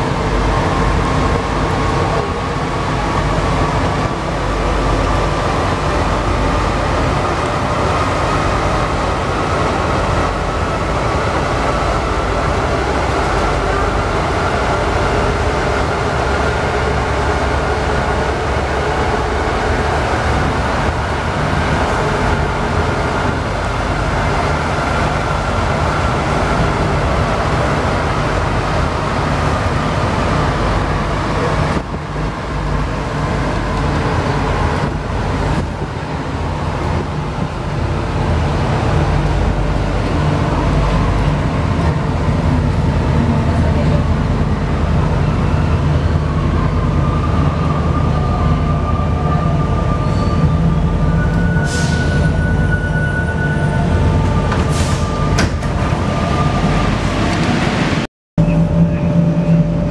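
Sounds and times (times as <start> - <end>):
metro train rumble: 0.0 - 59.9.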